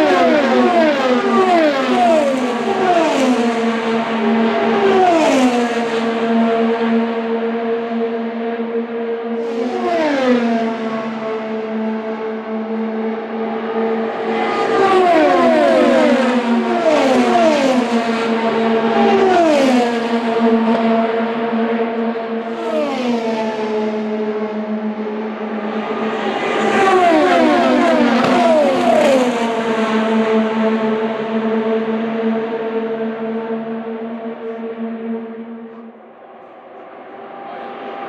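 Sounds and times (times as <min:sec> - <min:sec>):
race cars passing at speed: 0:00.0 - 0:38.0.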